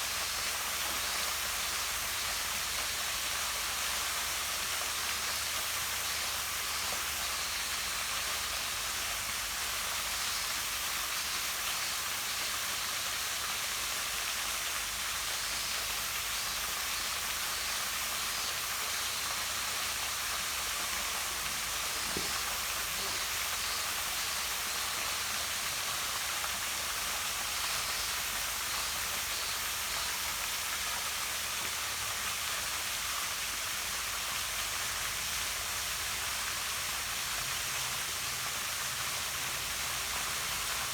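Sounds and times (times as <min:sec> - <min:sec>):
waterfall splashing into pond: 0:00.0 - 0:40.9.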